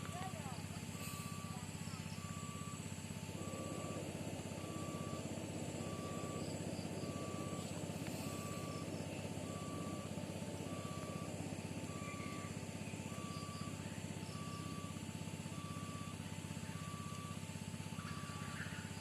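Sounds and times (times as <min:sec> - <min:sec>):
low engine rumble: 0:00.0 - 0:19.0
two-tone warning alarm beeping: 0:00.0 - 0:19.0.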